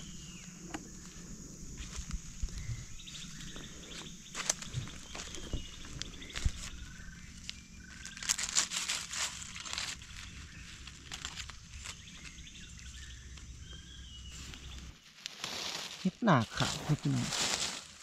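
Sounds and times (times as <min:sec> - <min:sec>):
leaves crunching underfoot: 0:00.0 - 0:18.0.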